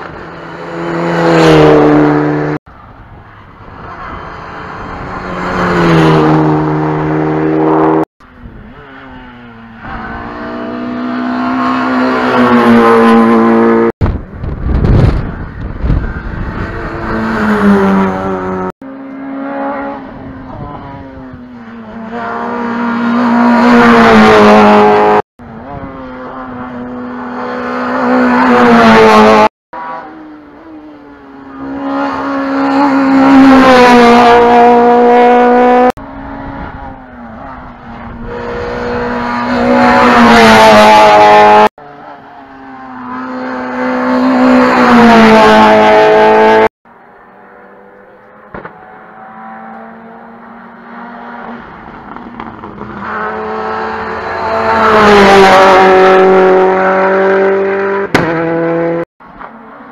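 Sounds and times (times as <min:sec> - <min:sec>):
race cars at full throttle: 0:00.0 - 0:59.9.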